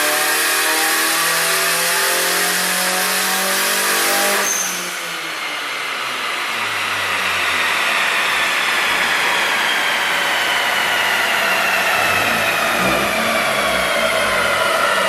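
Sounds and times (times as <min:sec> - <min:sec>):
turbocharged car engine revving: 0:00.0 - 0:15.0.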